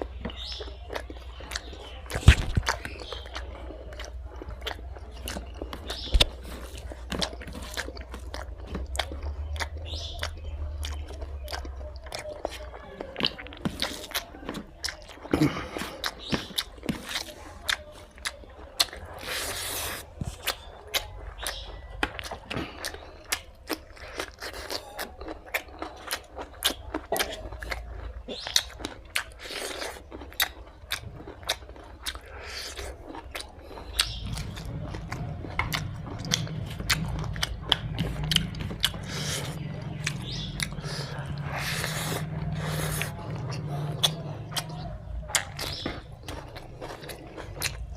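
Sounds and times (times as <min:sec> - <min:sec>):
chewing and biting food: 0:00.0 - 0:47.9.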